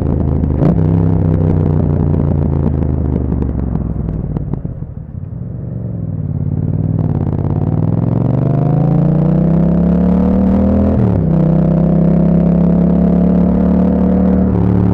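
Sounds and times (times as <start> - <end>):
motorcycle engine accelerating: 0.0 - 14.9.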